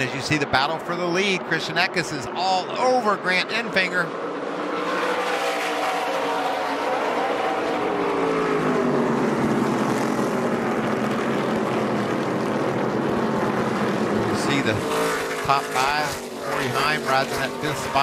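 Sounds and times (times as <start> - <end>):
racing truck engines: 0.0 - 18.0.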